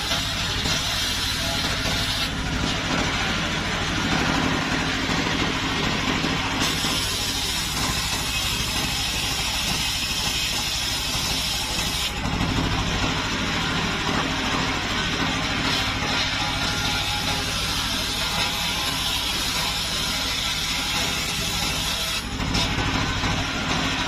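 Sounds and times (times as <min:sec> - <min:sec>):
circular saw ripping wood: 0:00.0 - 0:24.0
engine running: 0:00.0 - 0:24.0.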